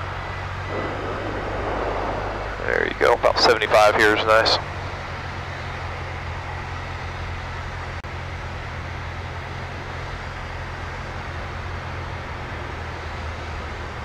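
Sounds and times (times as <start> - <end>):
propeller airplane engine droning: 0.0 - 14.0.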